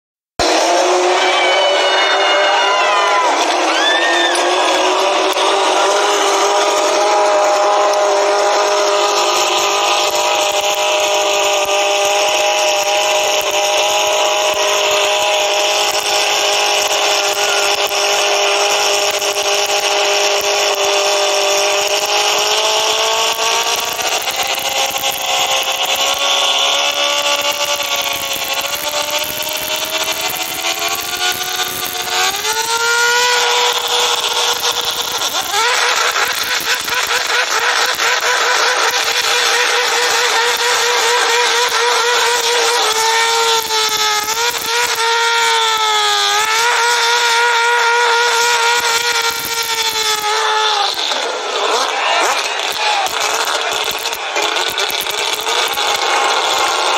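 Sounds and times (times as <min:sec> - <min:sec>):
rotary engine revving high: 0:00.4 - 0:56.9.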